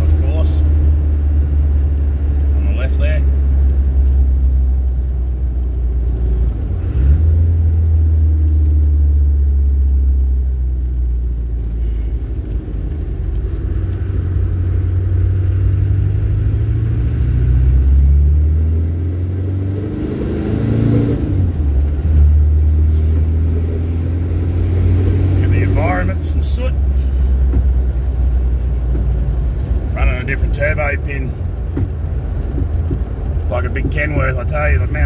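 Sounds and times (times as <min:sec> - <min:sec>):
diesel engine droning: 0:00.0 - 0:35.0
road noise: 0:00.0 - 0:35.0.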